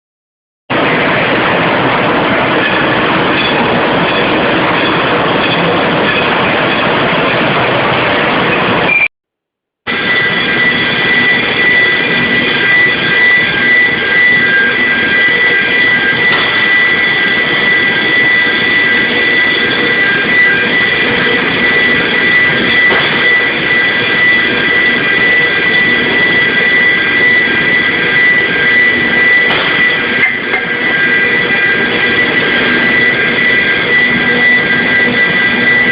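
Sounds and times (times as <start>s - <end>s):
high steady whine: 0.7s - 9.1s, 9.9s - 35.9s
industrial machinery roar: 0.7s - 9.1s, 9.9s - 35.9s.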